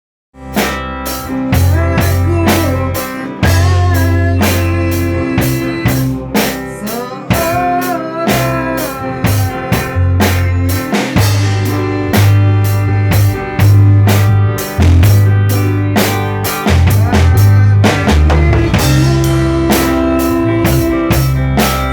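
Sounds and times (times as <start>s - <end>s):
bass line: 0.4s - 21.9s
bluesy electric guitar lead: 0.4s - 21.9s
drum kit beat: 0.4s - 21.9s.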